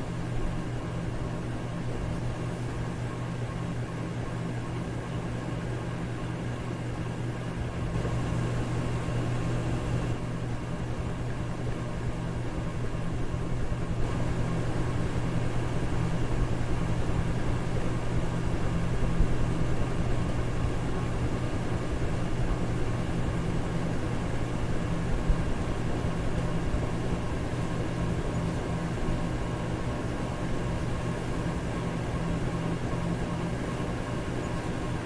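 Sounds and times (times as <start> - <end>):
electric fan running: 0.0 - 35.0.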